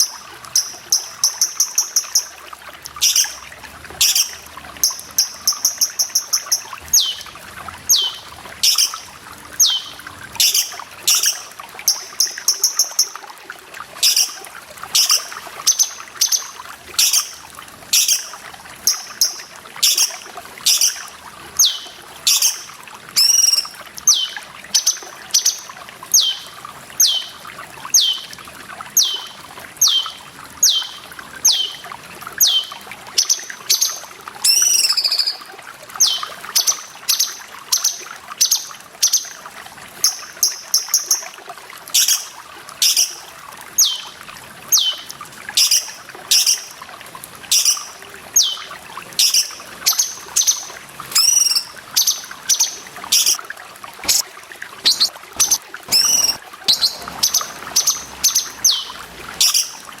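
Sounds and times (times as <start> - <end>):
songbird calling: 0.0 - 2.3, 3.0 - 3.4, 4.0 - 7.3, 7.9 - 13.2, 14.0 - 14.4, 15.0 - 28.4, 29.0 - 39.4, 43.8 - 46.7, 47.5 - 53.4, 54.0 - 54.2, 54.8 - 59.9
trickling water: 0.0 - 60.0.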